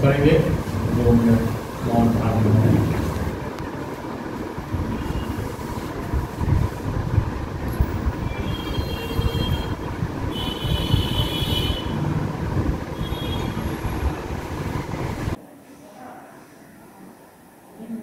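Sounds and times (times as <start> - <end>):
loud steady rumbling: 0.0 - 15.4.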